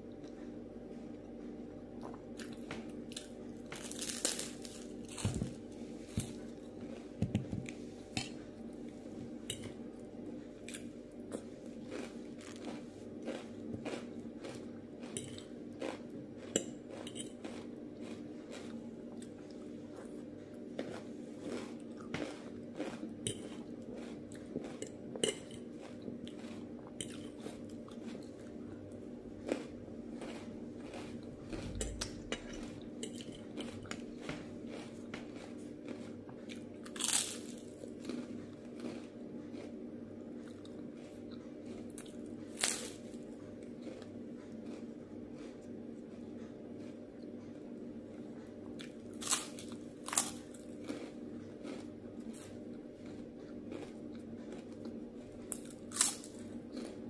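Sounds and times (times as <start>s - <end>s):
steady low hum: 0.0s - 57.0s
crunchy chewing: 2.0s - 57.0s.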